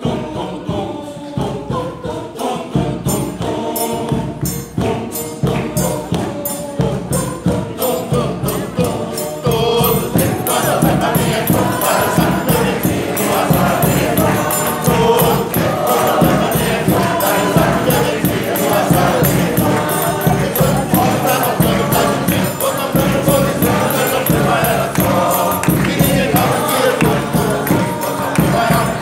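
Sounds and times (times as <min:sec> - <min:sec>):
frame drum tambourine: 0:00.0 - 0:29.0
mixed choir singing: 0:00.0 - 0:29.0
bass drum beat: 0:02.8 - 0:29.0.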